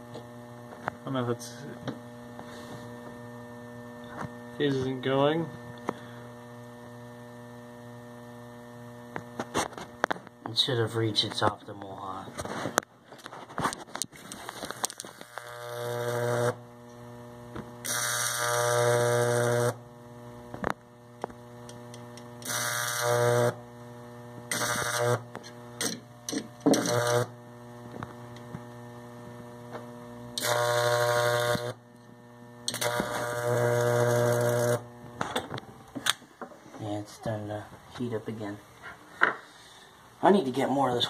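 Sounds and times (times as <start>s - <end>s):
high-voltage arc buzzing: 0.0s - 38.8s
loud mains hum: 0.0s - 41.0s.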